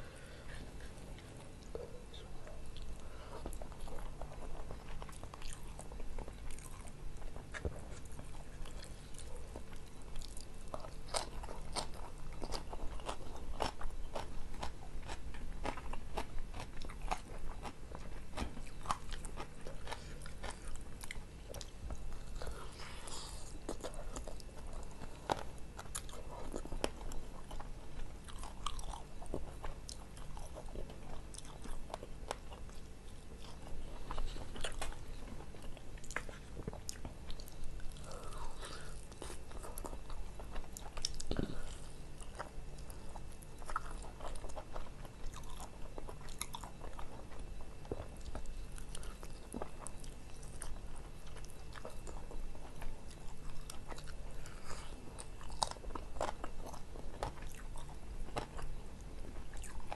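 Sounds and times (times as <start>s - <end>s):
biting and chewing: 2.8s - 59.9s.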